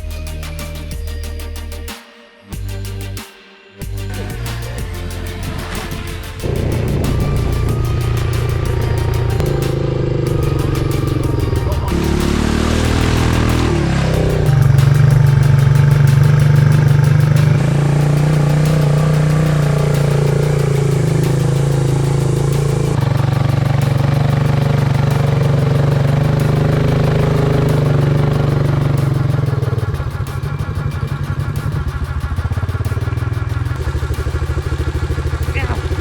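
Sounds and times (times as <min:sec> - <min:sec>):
quad bike engine droning: 0:04.0 - 0:36.0.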